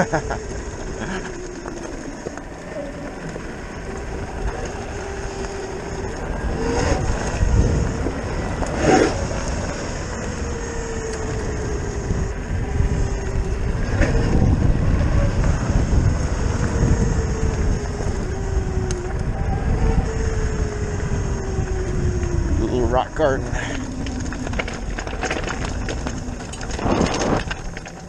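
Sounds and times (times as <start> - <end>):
electric motorcycle motor whining: 0.0 - 28.0
tyres rumbling on road: 0.0 - 28.0
wind buffeting microphone: 0.0 - 28.0.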